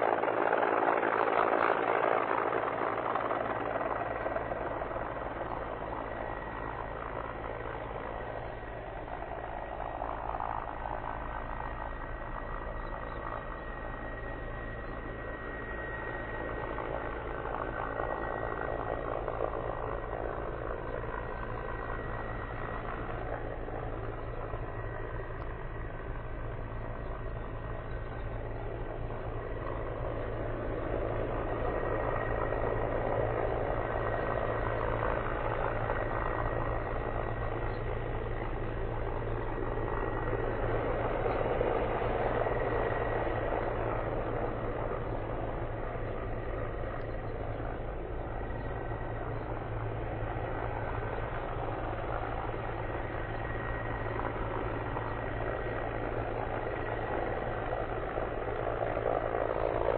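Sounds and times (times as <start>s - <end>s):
helicopter engine and rotor drone: 0.0s - 59.9s
high turbine whine: 0.0s - 59.9s.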